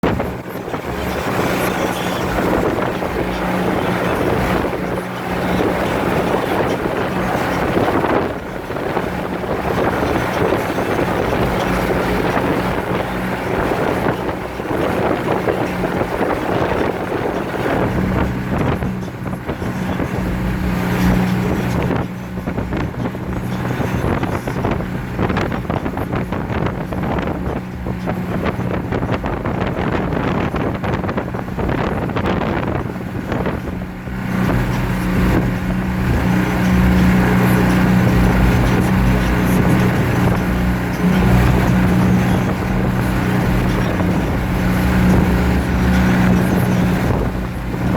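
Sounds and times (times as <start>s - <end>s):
low boat engine drone: 0.0s - 47.9s
wind buffeting microphone: 0.0s - 47.9s.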